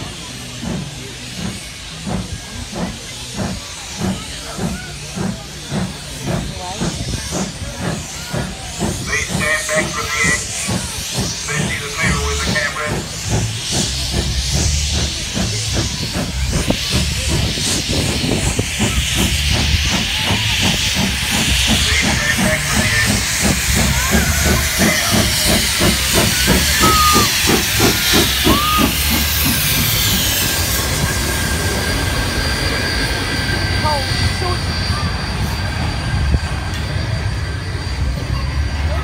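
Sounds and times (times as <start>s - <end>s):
loud hissing steam: 0.0s - 39.0s
steam locomotive exhaust beats: 0.0s - 39.0s.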